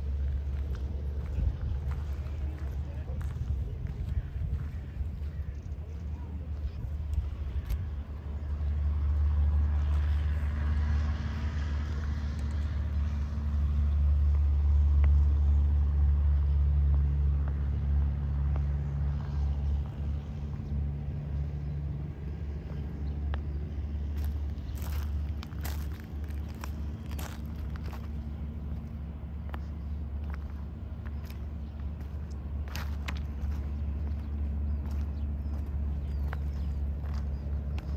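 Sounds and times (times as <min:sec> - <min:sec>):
vehicle engine rumble: 0:00.0 - 0:37.9.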